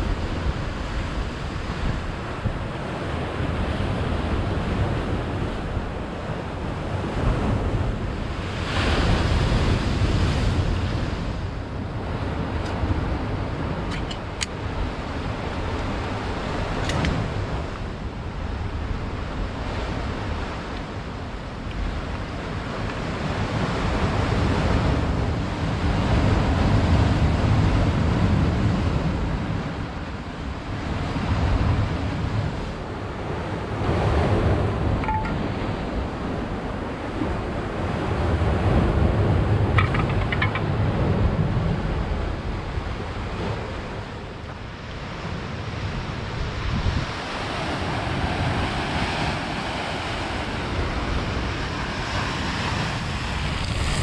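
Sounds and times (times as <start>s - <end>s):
sea waves breaking on shore: 0.0s - 54.0s
wind buffeting microphone: 0.0s - 54.0s.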